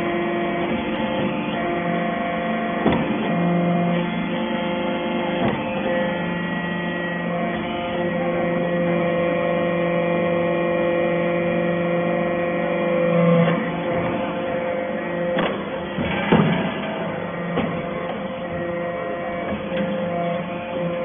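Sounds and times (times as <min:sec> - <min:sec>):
hydraulic machine humming: 0:00.0 - 0:21.0.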